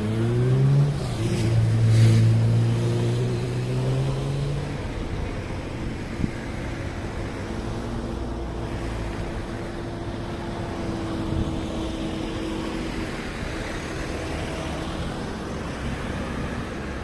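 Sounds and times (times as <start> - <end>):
motor vehicle humming: 0.0 - 17.0.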